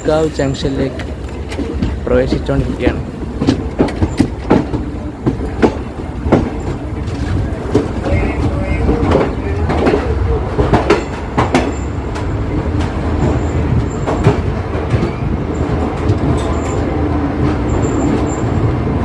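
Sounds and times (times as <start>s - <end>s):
wheels clicking over rail joints: 0.0s - 18.8s
train rumbling: 0.0s - 19.0s.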